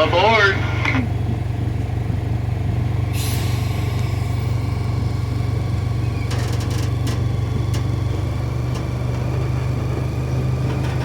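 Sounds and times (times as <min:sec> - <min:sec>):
train engine humming: 0:00.0 - 0:11.0.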